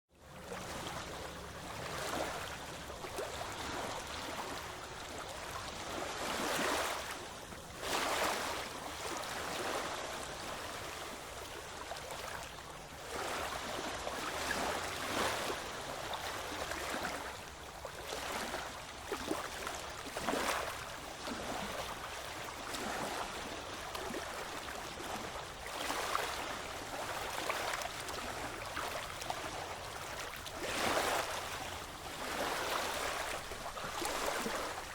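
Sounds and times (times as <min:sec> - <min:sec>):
ocean waves breaking: 0:00.3 - 0:34.9.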